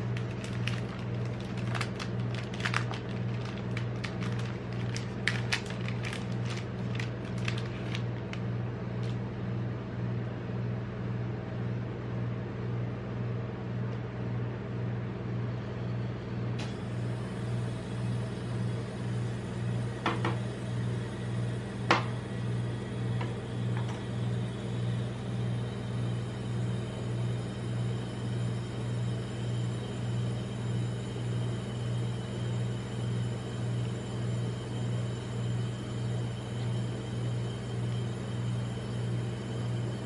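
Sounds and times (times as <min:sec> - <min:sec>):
cold plate machine humming: 0:00.0 - 0:40.0.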